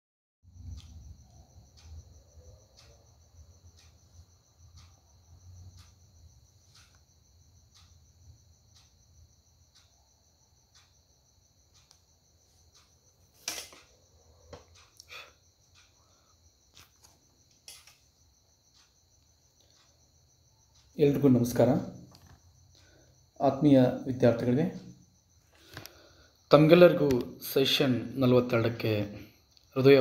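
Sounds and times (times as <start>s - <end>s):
crickets trilling: 0.5s - 30.0s
soft ticks: 0.6s - 27.4s, 29.3s - 30.0s.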